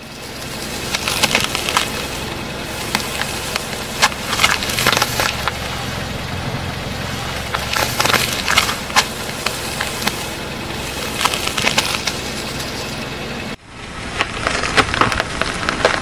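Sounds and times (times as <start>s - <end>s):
low hum: 0.0s - 16.0s
apple cracking under tyre: 0.3s - 6.2s, 6.8s - 13.1s, 13.8s - 16.0s.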